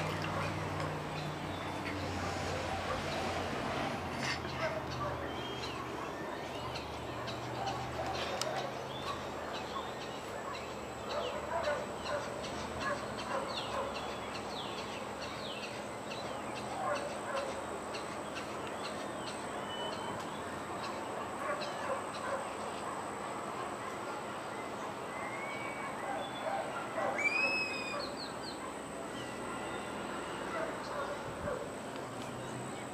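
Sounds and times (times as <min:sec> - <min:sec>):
wild birds chirping and squawking: 0:00.0 - 0:32.9.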